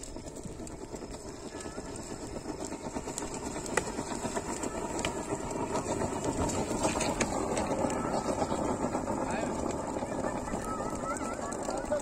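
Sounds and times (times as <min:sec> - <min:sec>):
thermite charge burning: 0:00.0 - 0:12.0.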